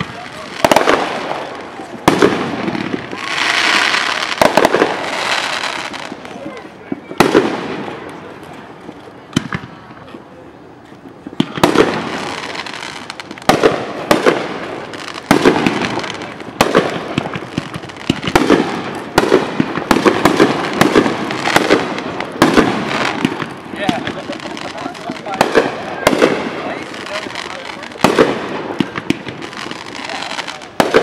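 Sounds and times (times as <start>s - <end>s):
fireworks bursting with bangs: 0.0s - 31.0s.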